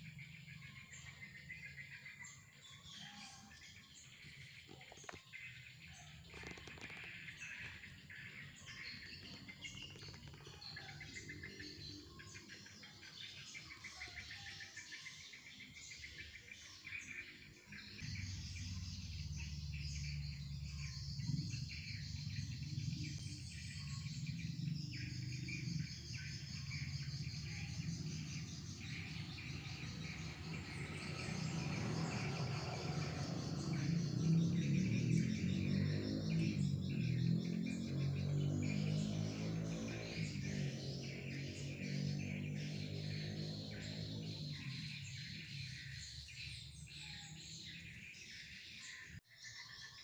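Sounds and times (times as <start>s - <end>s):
small birds chirping and trilling: 0.0s - 50.0s.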